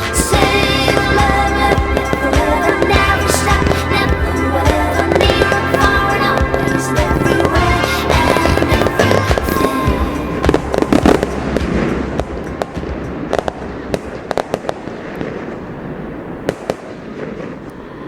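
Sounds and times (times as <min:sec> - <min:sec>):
background music: 0:00.0 - 0:16.4
fireworks bangs and crackles: 0:00.0 - 0:18.0.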